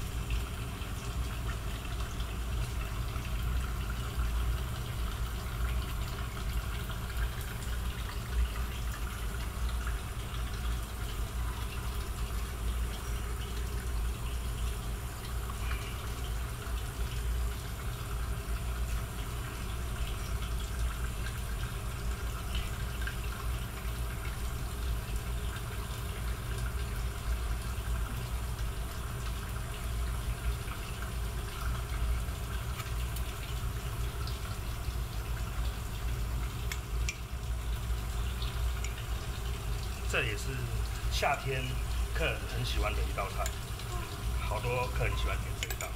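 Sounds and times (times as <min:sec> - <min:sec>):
kitchen equipment humming: 0:00.0 - 0:45.9.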